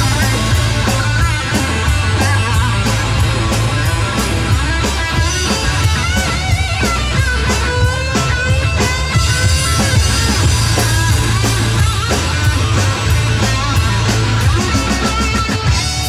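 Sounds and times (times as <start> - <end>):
bass guitar: 0.0 - 16.0
drum kit: 0.0 - 16.0
electric guitar bending notes: 0.0 - 16.0.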